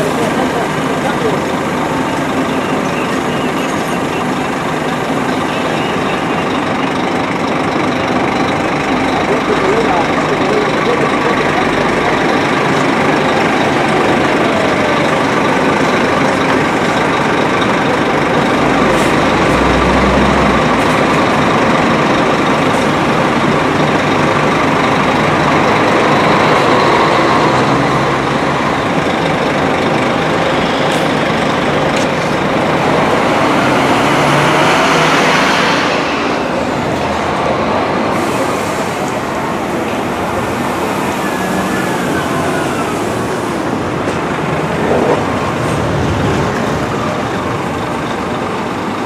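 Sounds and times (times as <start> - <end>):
coach engine and road noise: 0.0 - 49.0.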